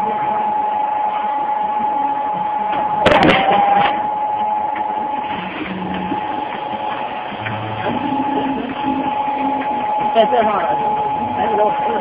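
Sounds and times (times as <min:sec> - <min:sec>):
shearing machine whining: 0:01.2 - 0:12.0.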